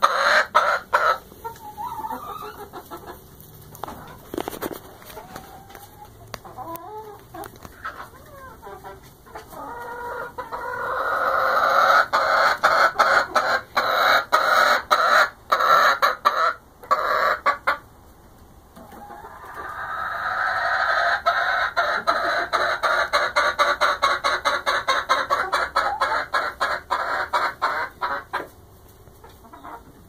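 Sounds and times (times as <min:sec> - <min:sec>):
hens clucking and squawking: 0:00.0 - 0:30.0.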